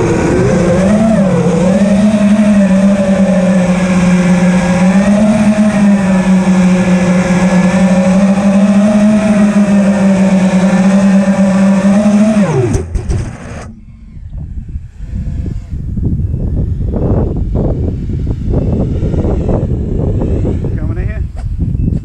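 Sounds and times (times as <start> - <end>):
drone motors buzzing: 0.0 - 22.0.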